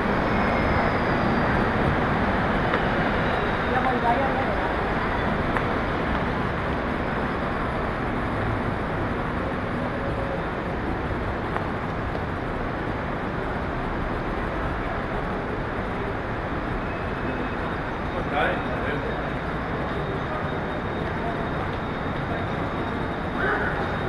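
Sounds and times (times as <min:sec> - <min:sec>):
traffic hum: 0:00.0 - 0:24.0.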